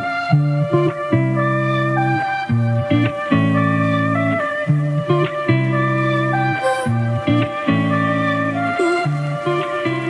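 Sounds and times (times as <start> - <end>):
plucked guitar chords: 0.0 - 10.0.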